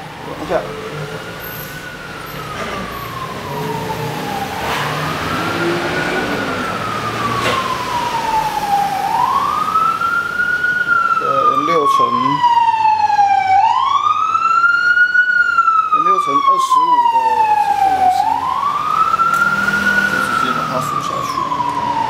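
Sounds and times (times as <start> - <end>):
emergency siren wailing: 0.0 - 22.0.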